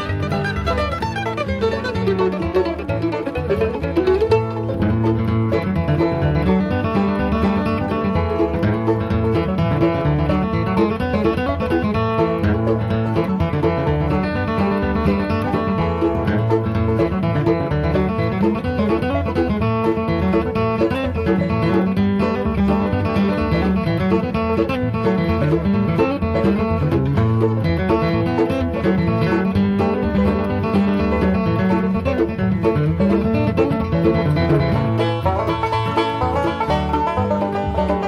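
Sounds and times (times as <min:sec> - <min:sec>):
bluegrass banjo and guitar: 0:00.0 - 0:38.0.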